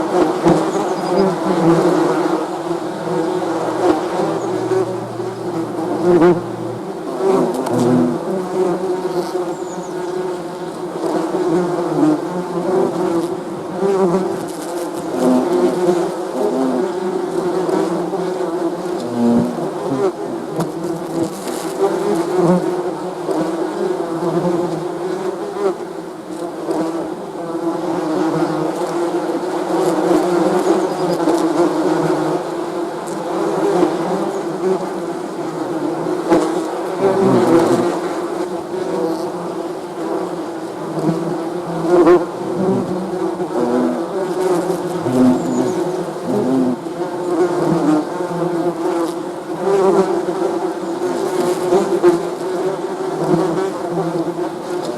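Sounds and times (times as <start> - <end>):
swarm of bees buzzing: 0.0 - 54.9.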